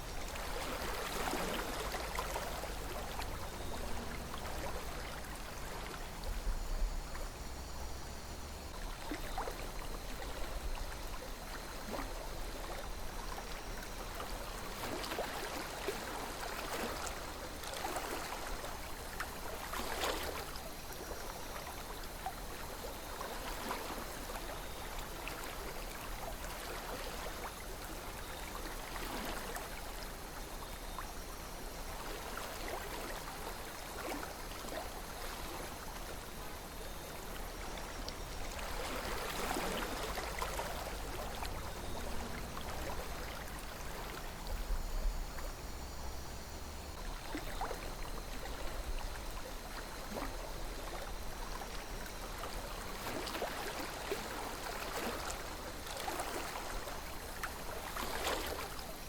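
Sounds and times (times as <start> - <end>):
river water flowing: 0.0 - 59.0
water gurgles and splashes: 0.0 - 59.0.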